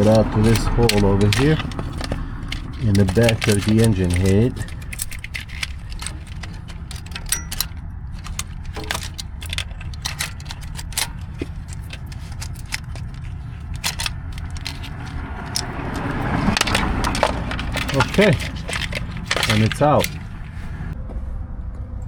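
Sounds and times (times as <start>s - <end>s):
wires clicking and rattling on metal: 0.0s - 21.0s
low steady rumble: 0.0s - 22.0s.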